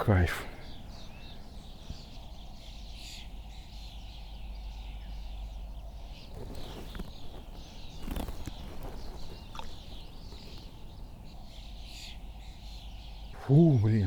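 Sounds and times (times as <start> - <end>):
songbirds chirping and singing: 0.0 - 14.0.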